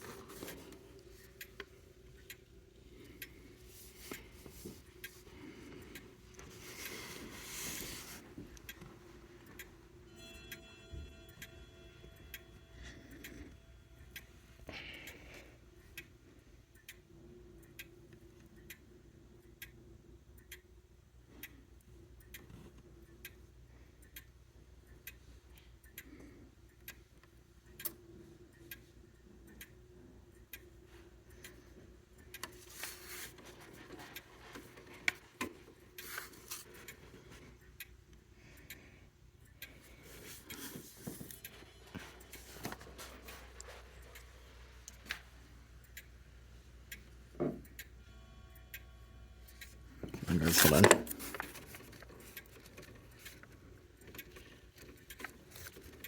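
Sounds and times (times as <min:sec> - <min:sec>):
grandfather clock ticking: 0:00.0 - 0:48.1.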